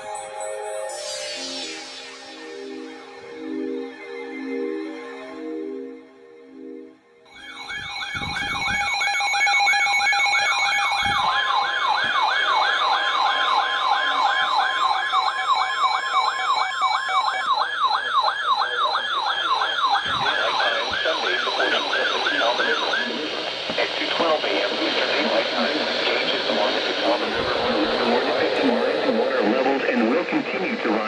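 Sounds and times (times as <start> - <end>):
siren-like warbling alarm: 0.0 - 31.0
steady high tone: 0.0 - 31.0.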